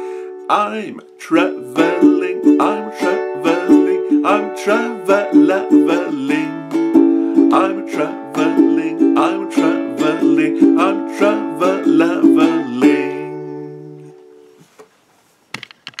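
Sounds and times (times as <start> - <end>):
ukulele strumming: 0.4 - 14.6.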